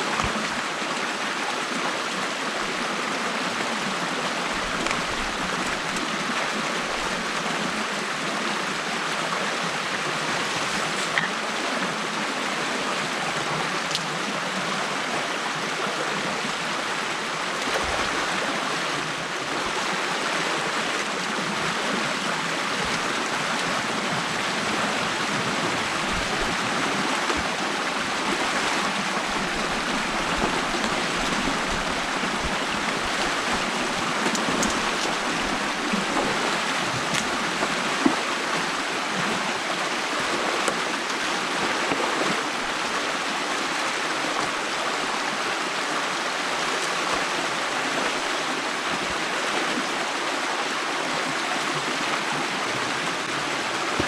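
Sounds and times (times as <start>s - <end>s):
water rushing and gurgling: 0.0s - 54.0s.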